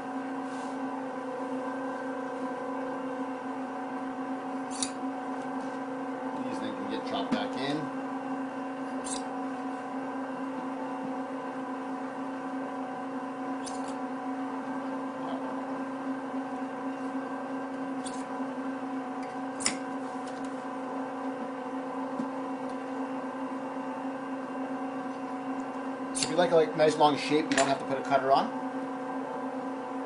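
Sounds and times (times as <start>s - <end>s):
pasta extruder motor humming: 0.0s - 30.0s.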